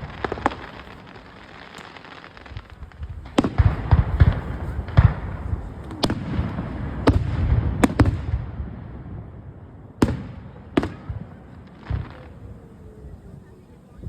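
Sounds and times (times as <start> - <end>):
fireworks crackle: 0.0 - 9.4, 10.0 - 14.0
fireworks bangs: 0.0 - 14.0.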